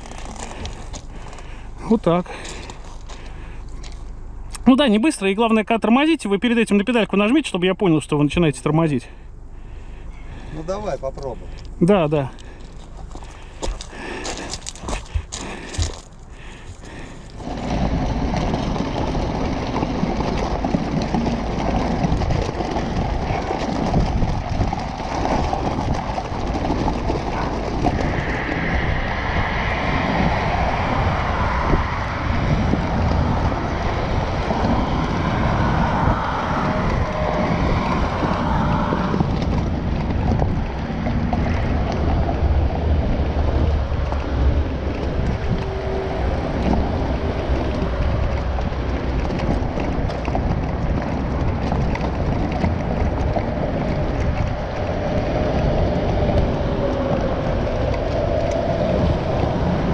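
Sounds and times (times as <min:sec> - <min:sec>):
tyres rolling on gravel: 0:00.0 - 0:59.9
wind buffeting microphone: 0:09.8 - 0:59.9.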